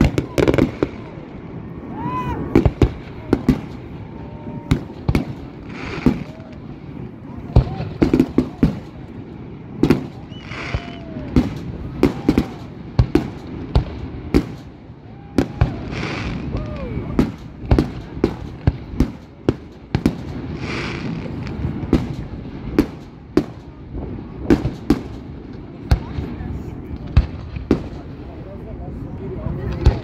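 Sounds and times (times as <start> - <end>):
fireworks hissing: 0.0 - 28.5
fireworks bursting with bangs: 0.0 - 30.0.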